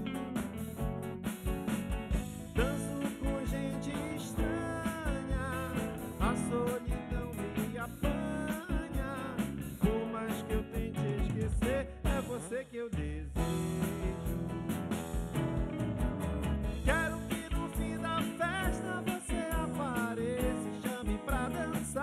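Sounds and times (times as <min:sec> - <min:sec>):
electric bass: 0:00.0 - 0:12.5, 0:13.1 - 0:22.0
electric guitars: 0:00.0 - 0:12.5, 0:13.4 - 0:22.0
drum kit: 0:00.0 - 0:22.0.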